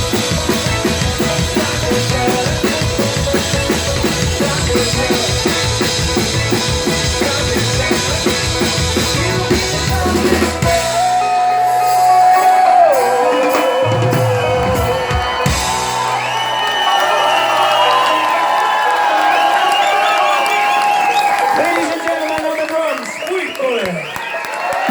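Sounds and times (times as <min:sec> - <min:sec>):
driving drumbeat: 0:00.0 - 0:24.0
live band playing: 0:00.0 - 0:24.9.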